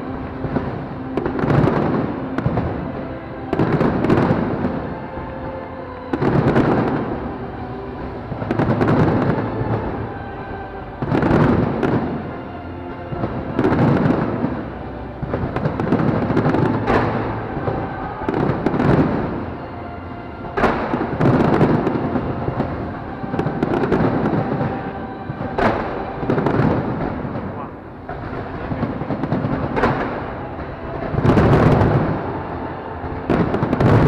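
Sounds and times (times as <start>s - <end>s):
fireworks booming and crackling: 0.0s - 34.0s
music playing: 0.0s - 34.0s.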